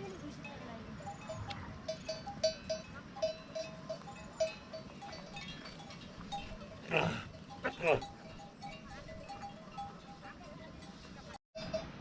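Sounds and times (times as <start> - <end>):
animal bells clanking: 0.0 - 12.0.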